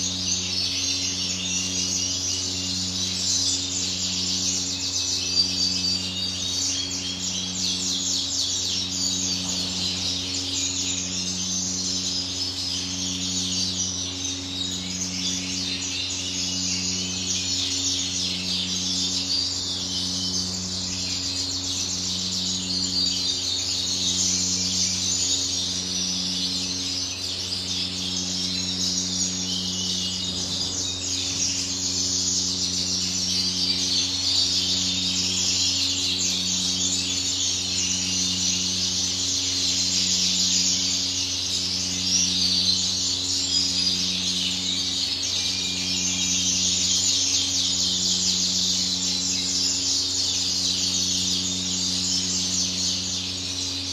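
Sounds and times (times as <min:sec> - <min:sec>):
canaries chirping and singing: 0:00.0 - 0:53.9
low electrical hum: 0:00.0 - 0:53.9.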